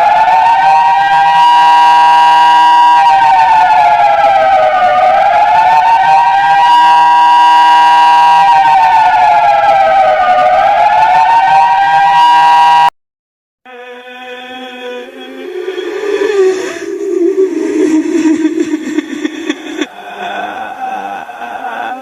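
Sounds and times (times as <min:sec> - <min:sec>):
warning siren: 0:00.0 - 0:12.9, 0:15.0 - 0:19.9.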